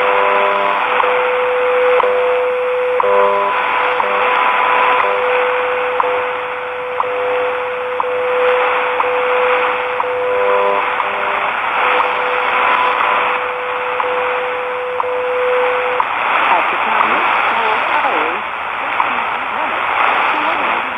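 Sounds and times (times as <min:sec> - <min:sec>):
shortwave static hiss: 0:00.0 - 0:20.9
steady radio tone: 0:00.0 - 0:20.9.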